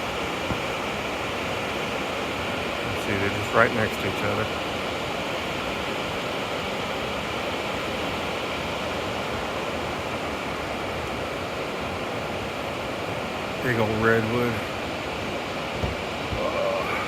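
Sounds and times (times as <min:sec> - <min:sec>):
rush of falling water: 0:00.0 - 0:17.0.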